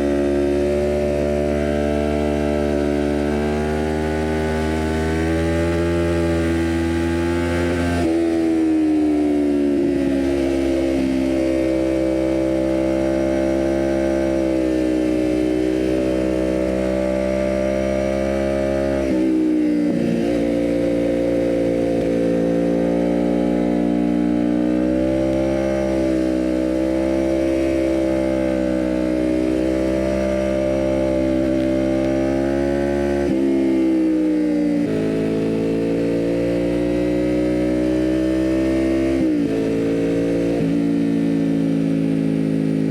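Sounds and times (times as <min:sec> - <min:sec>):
motorcycle engine buzzing: 0:00.0 - 0:42.9.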